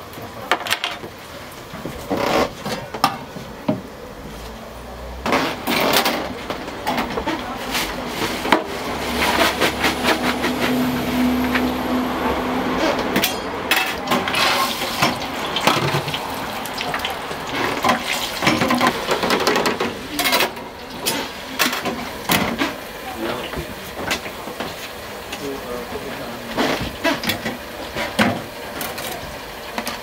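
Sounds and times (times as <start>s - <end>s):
food frying in hot oil: 0.0s - 30.0s.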